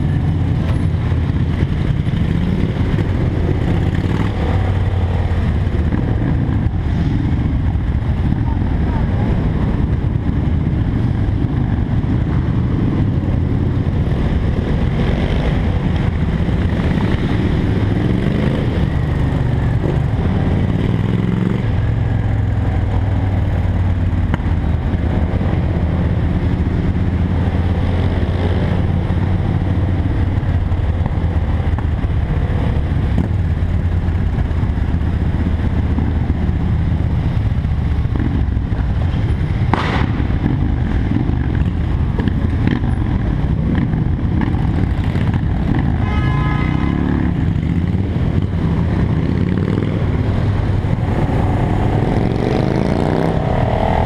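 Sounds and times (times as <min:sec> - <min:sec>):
motorcycle engines at low revs: 0:00.0 - 0:54.0.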